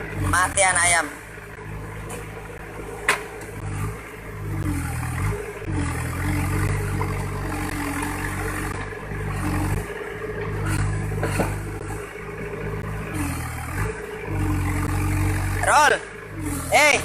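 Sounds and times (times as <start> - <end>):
diesel engine under hydraulic load: 0.0 - 17.0.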